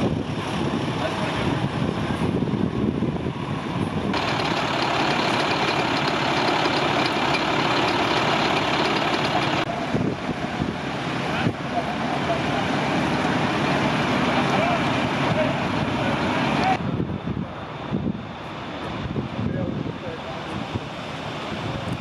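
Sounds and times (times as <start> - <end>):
fire engines idling: 0.0 - 22.0.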